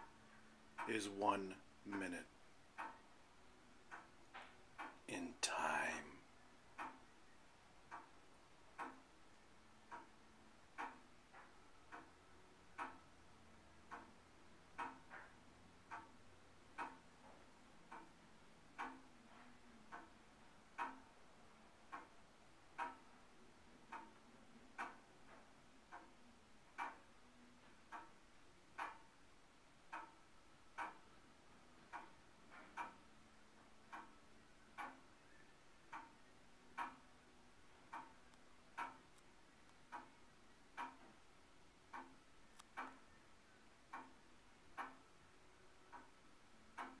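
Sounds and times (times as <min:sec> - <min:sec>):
clock ticking: 0:00.0 - 0:47.0.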